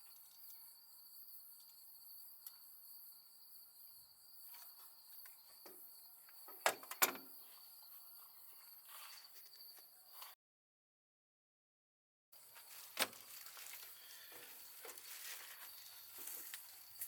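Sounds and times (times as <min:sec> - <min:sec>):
crickets trilling: 0:00.0 - 0:10.4, 0:12.4 - 0:17.0.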